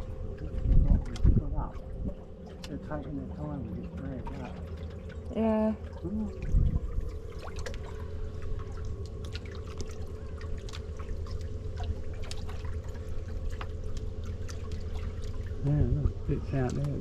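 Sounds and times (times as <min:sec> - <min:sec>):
low machine hum: 0:00.0 - 0:17.0
water drips and splashes: 0:00.0 - 0:17.0
water pouring and trickling: 0:00.0 - 0:17.0.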